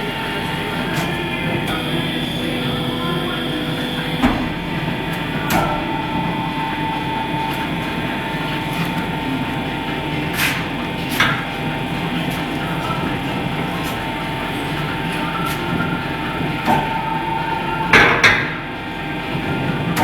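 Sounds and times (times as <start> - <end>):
tyre changer machine humming: 0.0 - 20.0.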